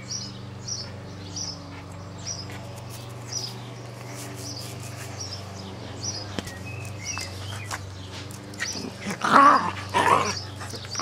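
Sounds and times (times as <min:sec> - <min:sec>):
small bird chirping: 0:00.0 - 0:09.0
steady low hum: 0:00.0 - 0:11.0.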